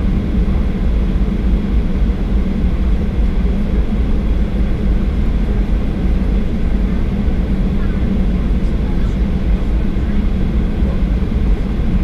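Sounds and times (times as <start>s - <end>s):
jet engines idling low rumble: 0.0s - 12.0s.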